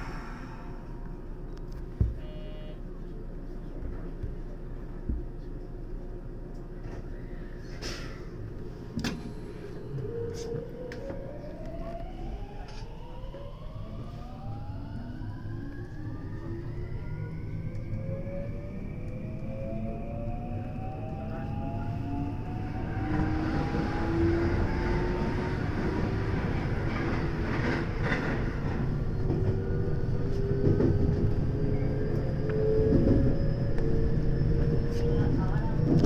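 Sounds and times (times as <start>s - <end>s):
standing train hum: 0.0s - 36.0s.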